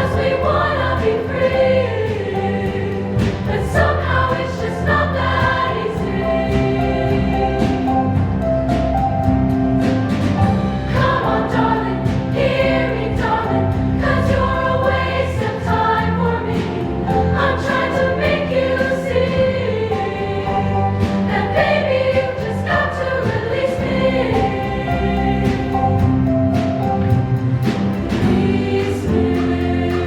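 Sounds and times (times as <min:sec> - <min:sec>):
band accompaniment with steady beat: 0:00.0 - 0:30.0
show choir singing: 0:00.0 - 0:30.0.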